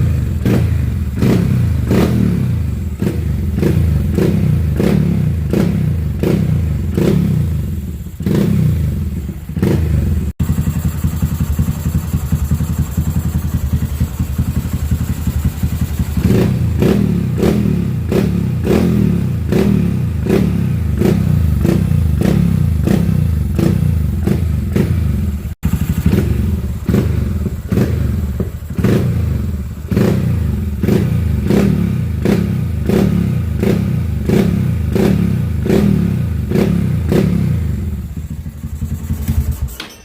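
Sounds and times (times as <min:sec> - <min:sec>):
motorcycle engine rumbling: 0:00.0 - 0:40.0.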